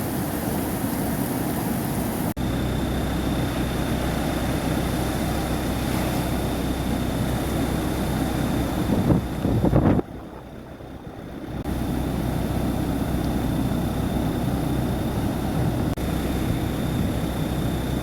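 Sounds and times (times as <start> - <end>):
faint high whine: 0.0 - 18.0
strong wind buffeting microphone: 0.0 - 18.0
steady low hum: 1.9 - 18.0.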